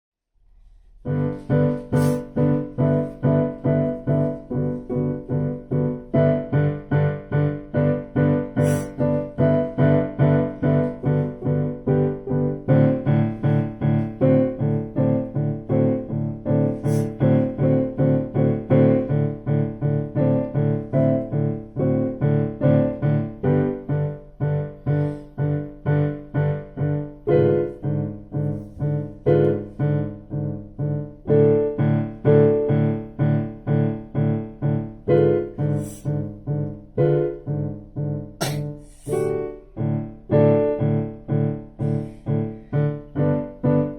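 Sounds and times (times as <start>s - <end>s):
piano piece: 0.5s - 43.9s.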